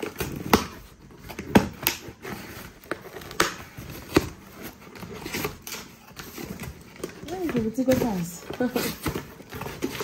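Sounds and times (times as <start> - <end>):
plastic and cardboard crinkling: 0.0 - 10.0.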